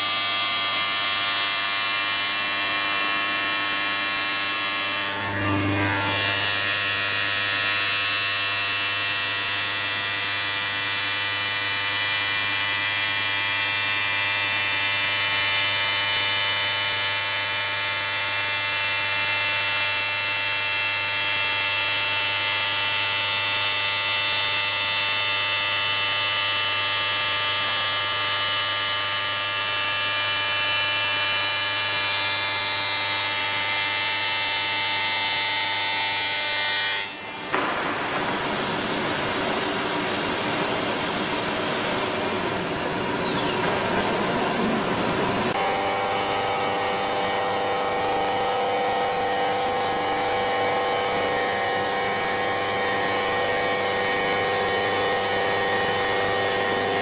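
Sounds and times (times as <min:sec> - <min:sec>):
router spindle hum and whine: 0:00.0 - 0:57.0.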